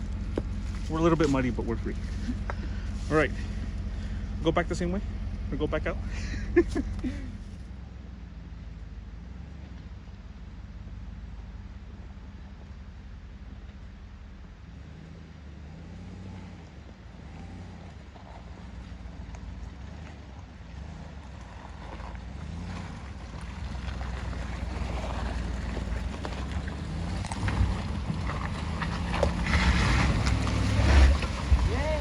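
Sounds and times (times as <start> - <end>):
truck engine rumbling: 0.0 - 32.0.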